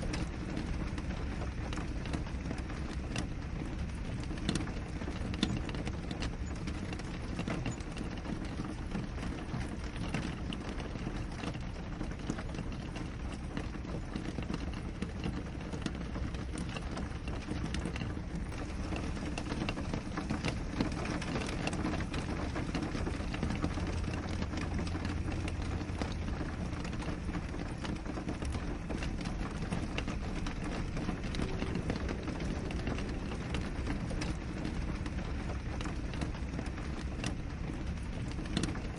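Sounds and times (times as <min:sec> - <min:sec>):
hiss of rainfall: 0:00.0 - 0:38.9
raindrops ticking on glass: 0:00.0 - 0:38.9.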